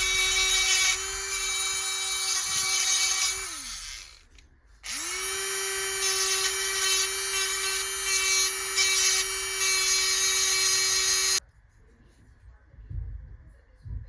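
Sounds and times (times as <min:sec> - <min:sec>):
rotary tool working metal: 0:00.0 - 0:11.4.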